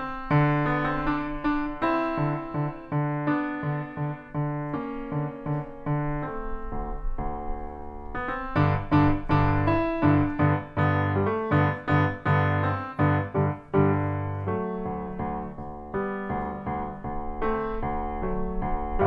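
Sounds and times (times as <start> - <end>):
solo piano: 0.0 - 19.0.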